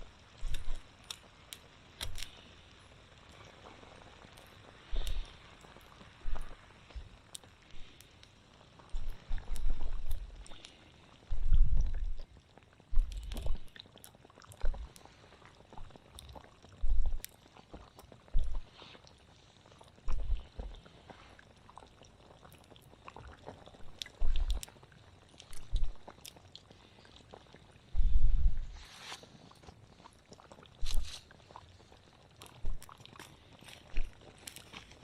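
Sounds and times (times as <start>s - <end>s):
campfire wood crackling: 0.0s - 35.0s
water boiling in deep bursts: 0.0s - 35.0s.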